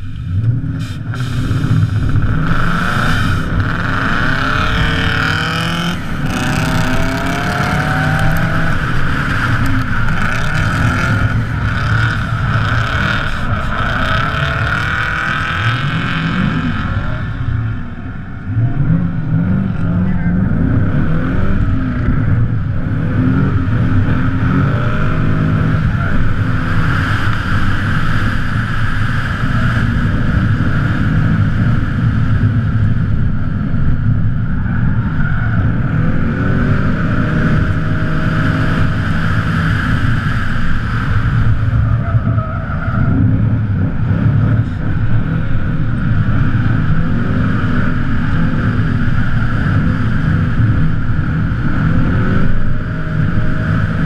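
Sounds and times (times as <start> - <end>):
car engine revving hard: 0.6 - 33.0, 34.8 - 54.0.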